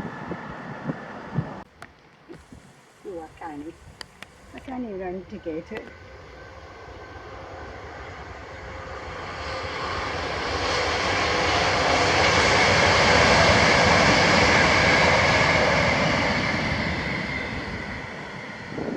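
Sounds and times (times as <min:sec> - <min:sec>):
train passing: 0:00.0 - 0:01.6, 0:02.6 - 0:18.9.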